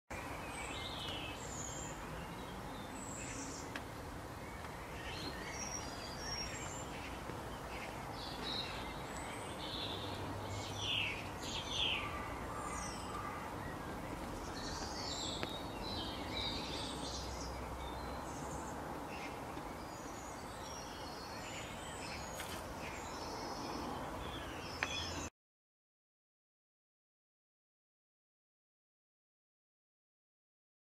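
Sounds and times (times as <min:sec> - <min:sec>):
wild birds chirping: 0:00.1 - 0:25.3.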